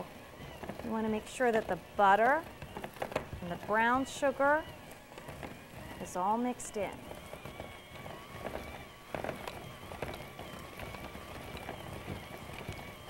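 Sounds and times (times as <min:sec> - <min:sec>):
electric mixer motor whine: 0:00.0 - 0:13.0.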